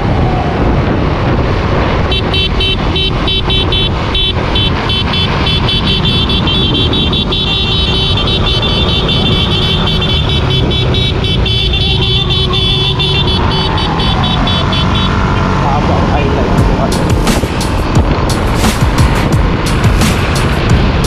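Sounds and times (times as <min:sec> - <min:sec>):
wind on microphone: 0:00.0 - 0:21.0
vehicle engine running: 0:01.7 - 0:21.0.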